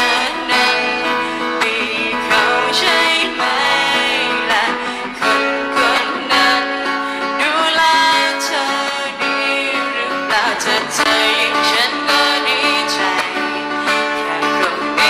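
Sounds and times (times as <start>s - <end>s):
acoustic guitar: 0.0s - 15.0s
woman singing into microphone: 0.0s - 15.0s.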